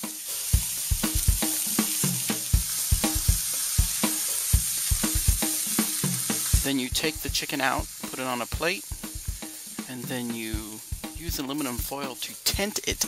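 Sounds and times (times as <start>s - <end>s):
chicken sizzling in a skillet: 0.0s - 13.0s.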